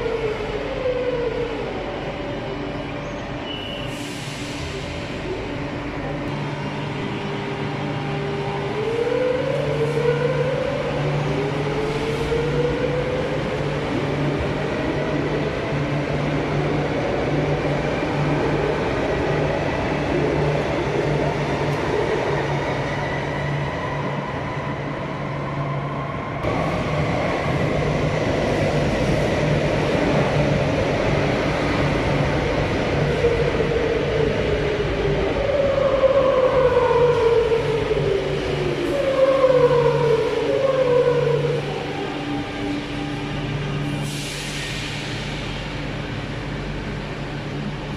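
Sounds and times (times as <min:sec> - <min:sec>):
wheels rumbling on rail: 0:00.0 - 0:47.9.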